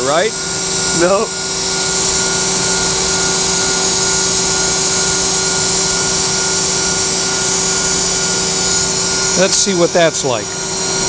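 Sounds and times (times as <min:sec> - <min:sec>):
grinding spindle hiss: 0:00.0 - 0:11.0.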